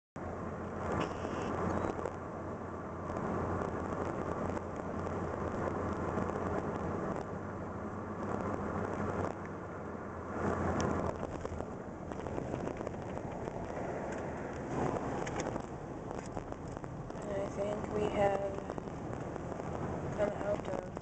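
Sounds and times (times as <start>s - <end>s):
car road and engine noise: 0.2s - 21.0s.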